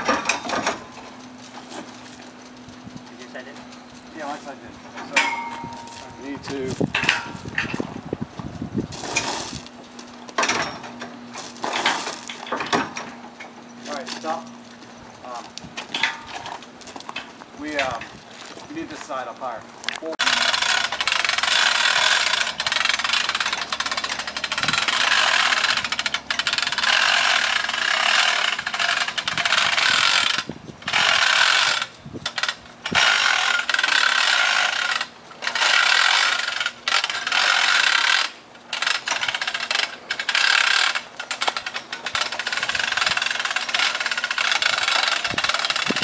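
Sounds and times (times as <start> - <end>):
metal parts scraping and rubbing: 0.0 - 7.9, 8.9 - 19.2, 20.2 - 46.0.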